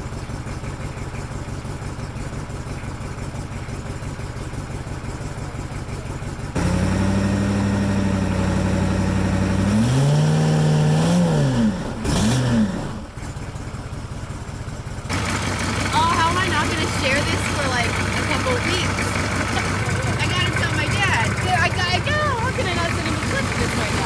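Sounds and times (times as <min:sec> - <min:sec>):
diesel engine idling and revving: 0:00.0 - 0:24.0.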